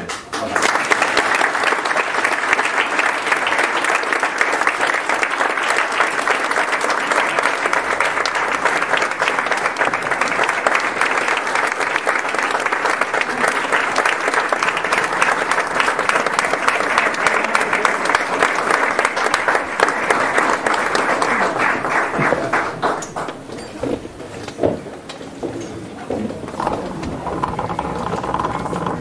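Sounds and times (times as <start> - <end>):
audience applauding: 0.0 - 23.8.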